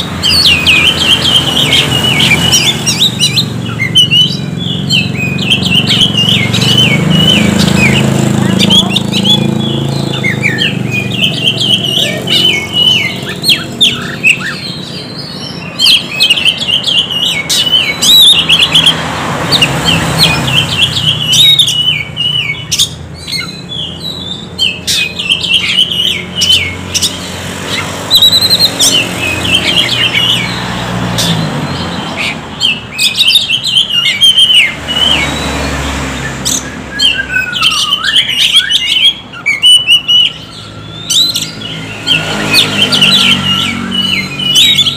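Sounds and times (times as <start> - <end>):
bird singing chattering whistles: 0.0 - 30.6, 31.2 - 44.9.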